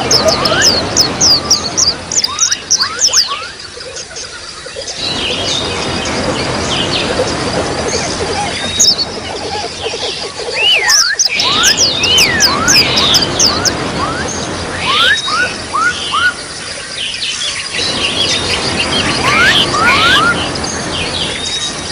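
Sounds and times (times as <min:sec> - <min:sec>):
small songbirds chirping: 0:00.0 - 0:21.9.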